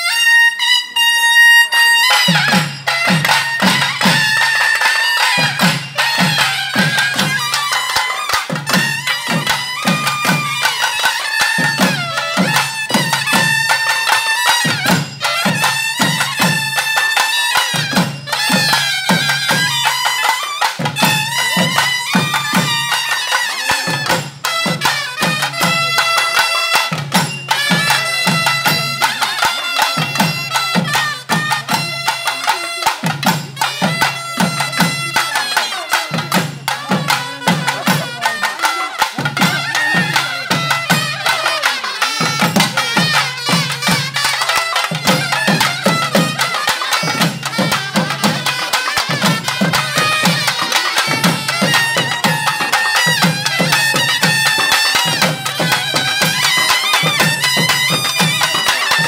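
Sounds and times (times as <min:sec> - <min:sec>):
reedy wind instrument melody: 0:00.0 - 0:59.0
rhythmic drumming: 0:00.0 - 0:59.0.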